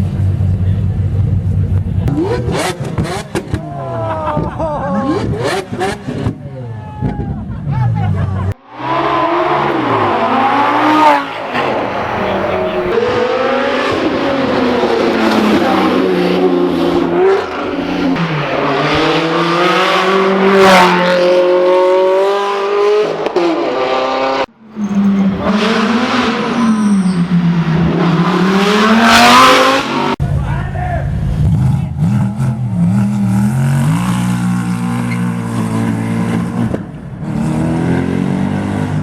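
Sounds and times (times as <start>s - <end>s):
supercar engines revving: 0.0s - 6.7s, 7.4s - 30.2s, 31.1s - 39.0s.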